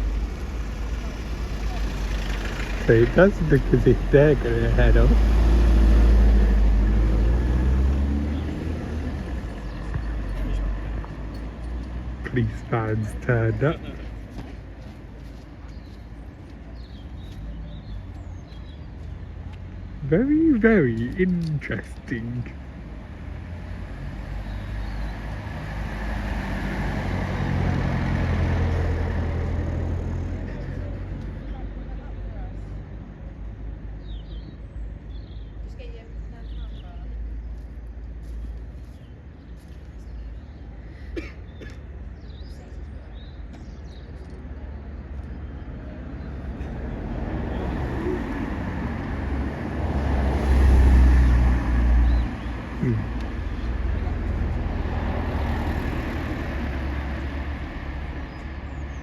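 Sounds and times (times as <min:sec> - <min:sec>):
vehicle engine humming: 0:00.0 - 0:59.0.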